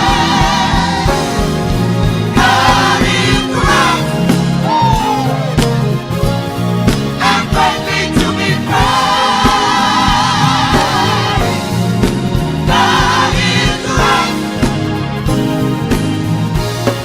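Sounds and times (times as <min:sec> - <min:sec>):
gospel choir singing: 0:00.0 - 0:17.0
steady drum beat: 0:00.0 - 0:17.0.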